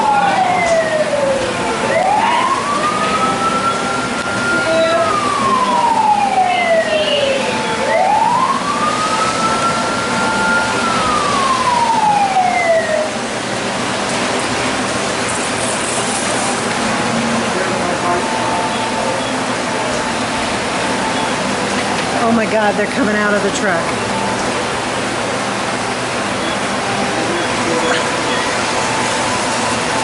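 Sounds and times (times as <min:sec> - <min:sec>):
fire engine wail siren: 0:00.0 - 0:30.0.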